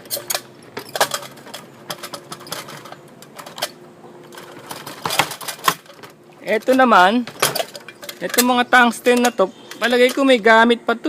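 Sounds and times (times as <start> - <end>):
plastic and metal parts clattering: 0.0 - 10.3.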